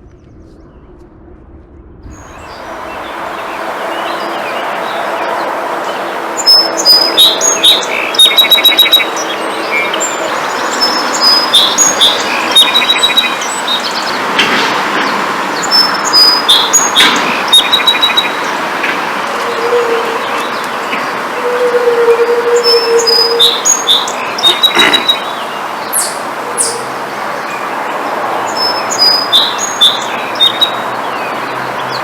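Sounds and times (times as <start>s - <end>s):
steady rushing noise: 0.0s - 32.0s
songbirds chirping: 2.2s - 32.0s.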